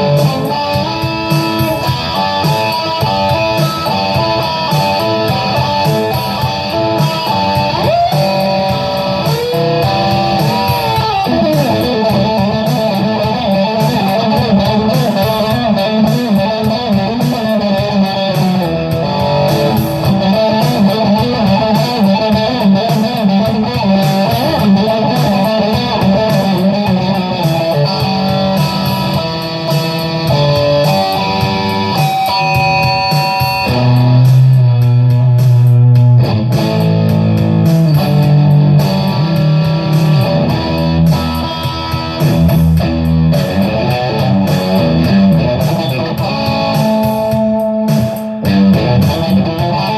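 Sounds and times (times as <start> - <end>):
electric guitar lead lines: 0.0 - 49.9.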